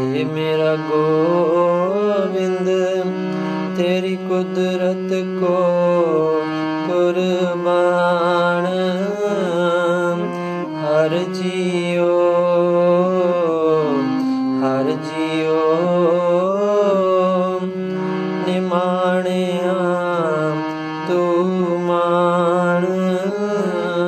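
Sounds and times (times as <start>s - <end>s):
harmonium playing: 0.0s - 24.0s
person singing: 0.0s - 24.0s.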